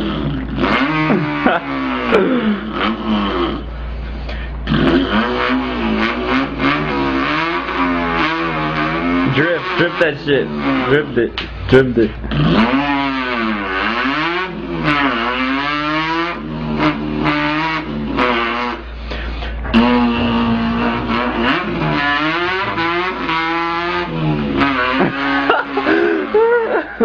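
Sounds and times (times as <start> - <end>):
person imitating car engine: 0.0 - 27.0.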